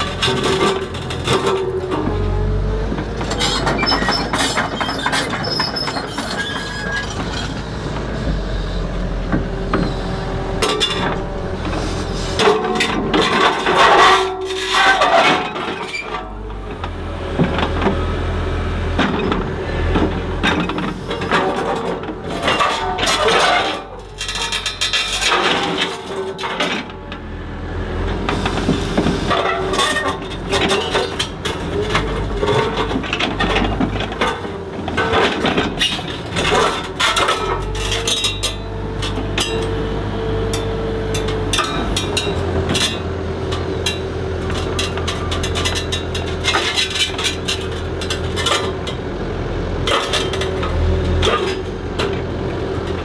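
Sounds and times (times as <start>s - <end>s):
excavator hum and whine: 0.0s - 53.0s.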